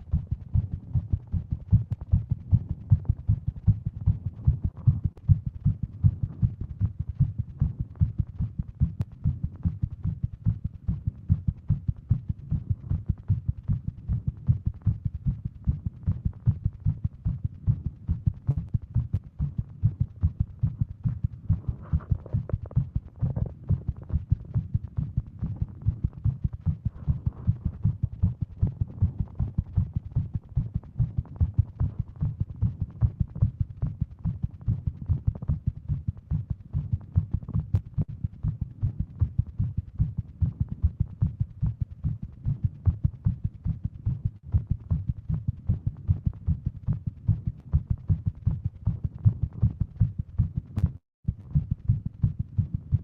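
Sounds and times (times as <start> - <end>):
fast heartbeat thuds: 0.0 - 53.0.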